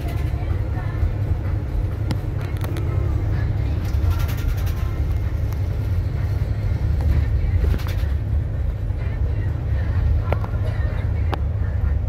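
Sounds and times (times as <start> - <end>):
bus engine and tyres rumbling: 0.0 - 12.0.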